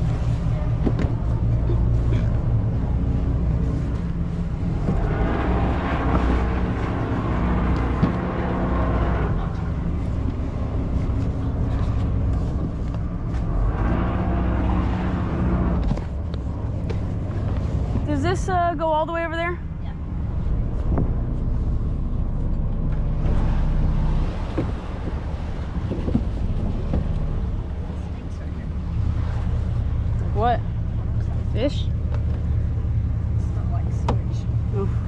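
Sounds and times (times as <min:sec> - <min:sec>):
rushing wind: 0:00.0 - 0:33.3
water noise: 0:00.0 - 0:35.0
yacht engines droning: 0:00.0 - 0:35.0.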